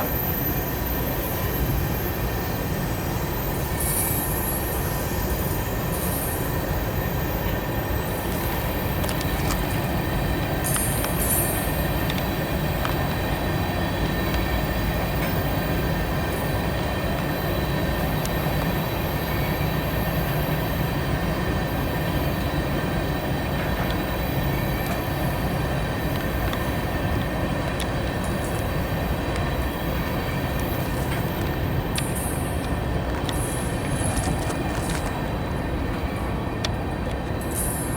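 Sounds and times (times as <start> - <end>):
train cars rumbling on rails: 0.0 - 37.9.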